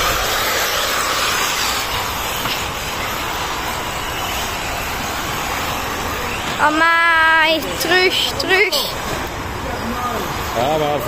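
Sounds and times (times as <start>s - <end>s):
rc buggies racing on sand: 0.0s - 11.0s.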